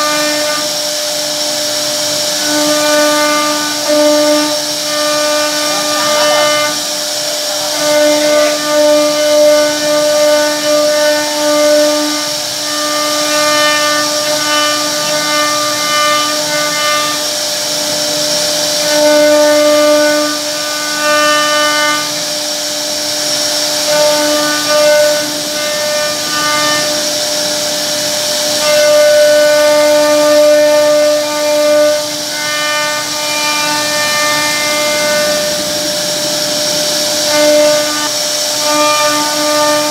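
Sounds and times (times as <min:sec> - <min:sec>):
bit cutting wood hiss: 0:00.0 - 0:39.9
router spindle whining: 0:00.0 - 0:39.9.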